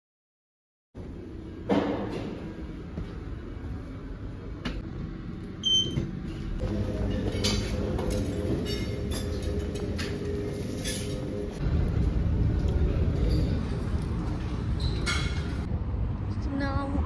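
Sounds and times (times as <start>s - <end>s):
room hum: 1.0s - 16.9s.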